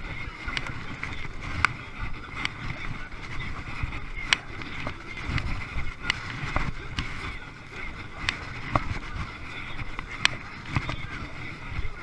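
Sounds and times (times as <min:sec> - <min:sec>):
water slapping a kayak: 0:00.0 - 0:12.0
wind buffeting microphone: 0:00.0 - 0:12.0.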